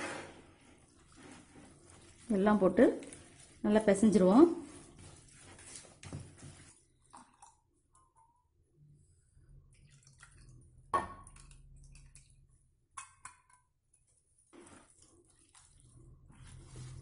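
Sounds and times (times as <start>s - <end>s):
wet squishing of hand mixing: 0.4s - 8.2s, 9.0s - 17.0s.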